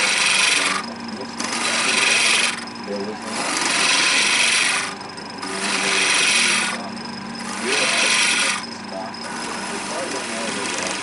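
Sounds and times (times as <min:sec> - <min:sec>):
lathe hum: 0:00.0 - 0:11.0
turning tool cutting wood: 0:00.0 - 0:11.0.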